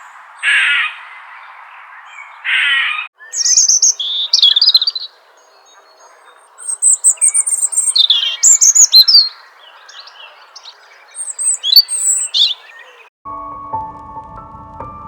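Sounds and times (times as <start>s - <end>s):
birds chirping and singing: 0.0s - 13.1s.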